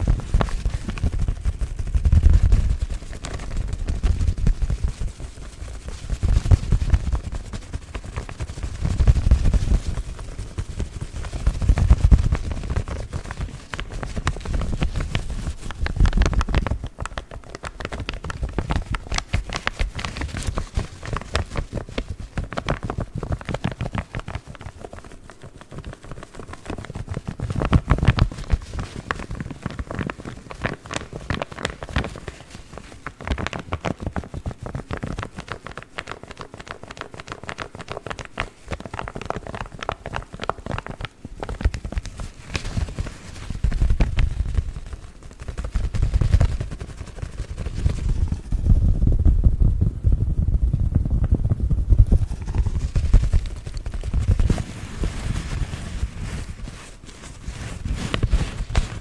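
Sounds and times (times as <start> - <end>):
paper crinkling and crumpling: 0.0 - 48.5, 52.0 - 59.0.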